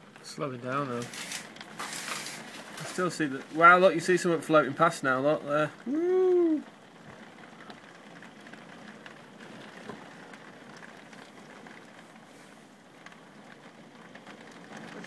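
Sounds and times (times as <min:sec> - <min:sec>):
heavy rain falling: 0:00.0 - 0:15.0
light taps of raindrops: 0:00.0 - 0:15.0.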